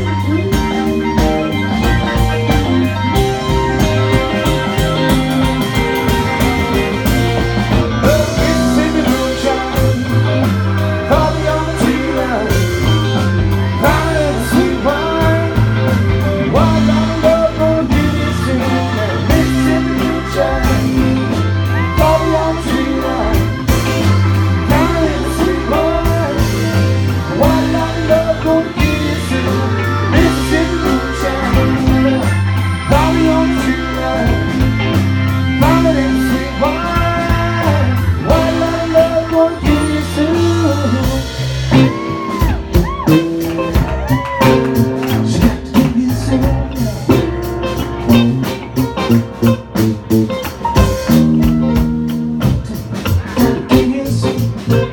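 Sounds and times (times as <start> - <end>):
bass line: 0.0 - 54.9
drums: 0.0 - 54.9
electric guitar lead line: 0.0 - 54.9
rock band playing: 0.0 - 54.9.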